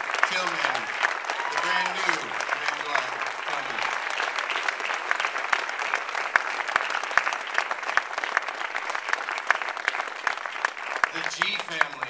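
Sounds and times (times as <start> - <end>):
audience applause: 0.0 - 12.0.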